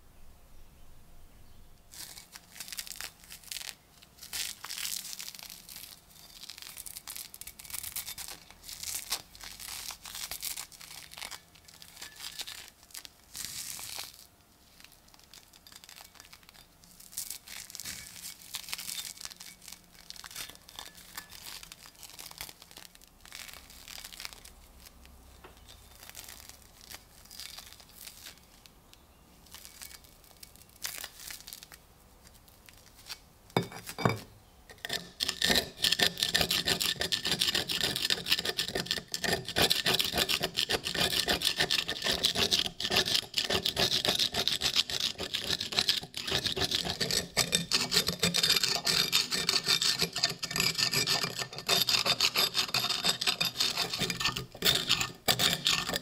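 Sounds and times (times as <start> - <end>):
gloves scraping over rust: 1.9 - 28.6, 29.4 - 56.0.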